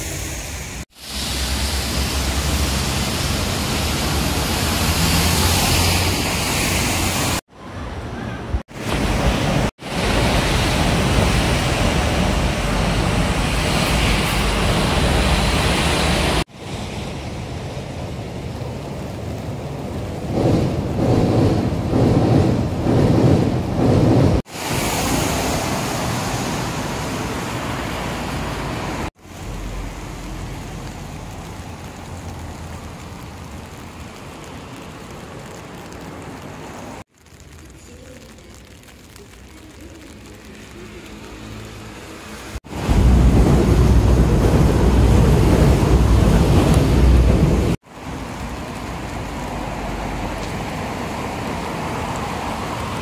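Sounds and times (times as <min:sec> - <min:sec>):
city traffic noise: 0:00.0 - 0:53.0.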